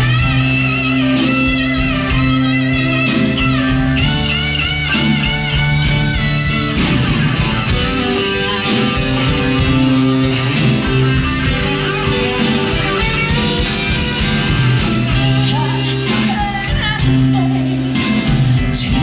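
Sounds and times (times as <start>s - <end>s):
electric guitar sustained notes: 0.0s - 19.0s
rock band playing: 0.0s - 19.0s.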